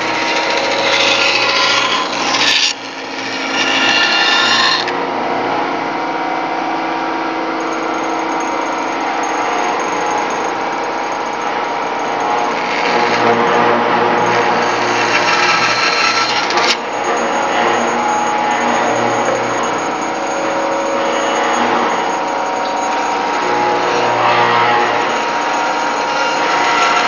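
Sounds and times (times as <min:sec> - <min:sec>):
band saw running free: 0:00.0 - 0:04.9, 0:07.7 - 0:27.0
band saw cutting wood: 0:00.0 - 0:05.0, 0:08.0 - 0:27.0.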